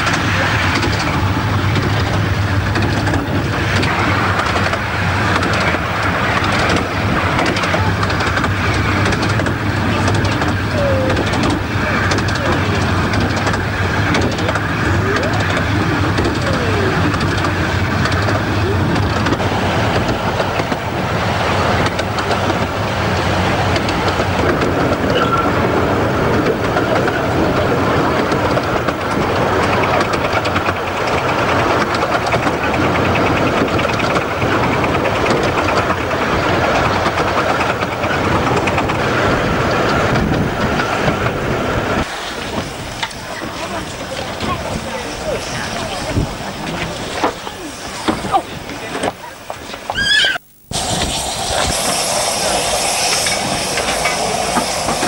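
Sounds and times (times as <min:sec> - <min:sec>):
coaches rattling: 0:00.0 - 0:50.3
train wheels on track: 0:00.0 - 0:55.0.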